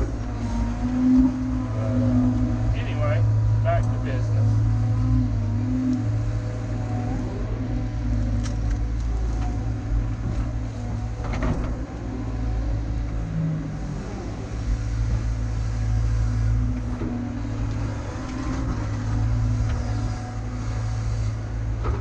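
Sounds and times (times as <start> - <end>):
earthmover diesel engine running: 0.0 - 22.0.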